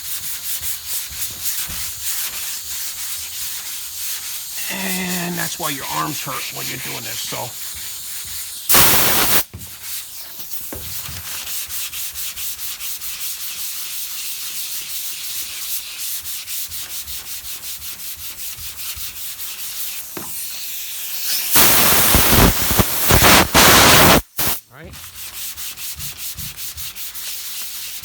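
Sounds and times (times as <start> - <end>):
sandpaper rubbing on sheet metal: 0.0 - 5.8, 6.8 - 28.0.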